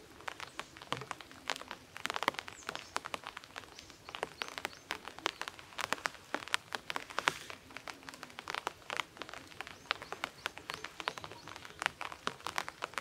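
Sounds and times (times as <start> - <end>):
dry sticks clicking and crackling: 0.0 - 13.0.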